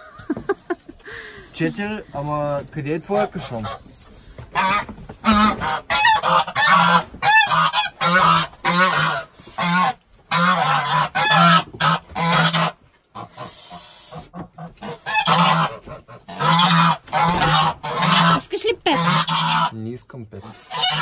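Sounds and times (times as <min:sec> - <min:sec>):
geese honking: 0:01.1 - 0:19.8, 0:20.4 - 0:21.0.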